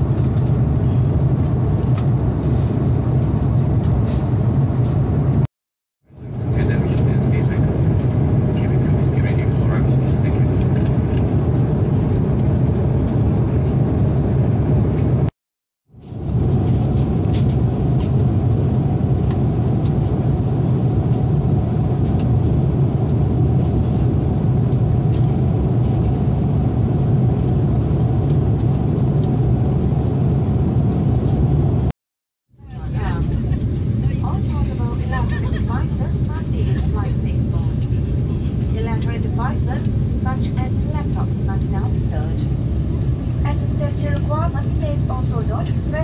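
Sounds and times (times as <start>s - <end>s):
airliner cabin drone: 0.0s - 5.5s, 6.1s - 15.3s, 15.9s - 31.9s, 32.6s - 46.0s.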